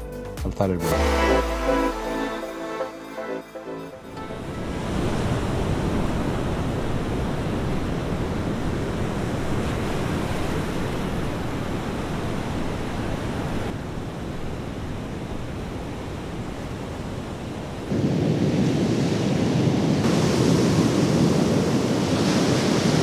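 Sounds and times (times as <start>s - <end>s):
sea surf on shore: 0.9s - 23.0s
wind: 4.2s - 23.0s.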